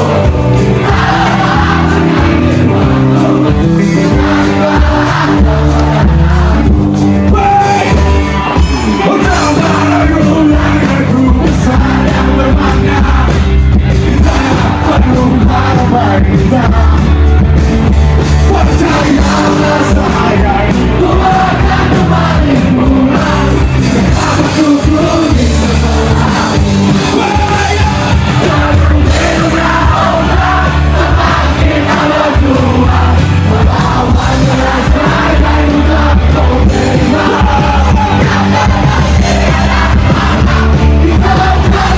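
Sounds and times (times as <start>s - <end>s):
crowd yelling and singing along: 0.0s - 41.9s
live band playing loud: 0.0s - 41.9s.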